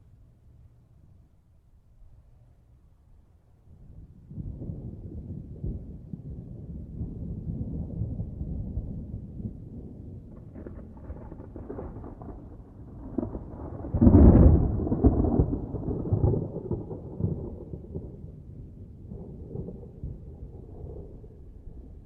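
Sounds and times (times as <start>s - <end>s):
thunder rumbling: 3.8s - 22.0s.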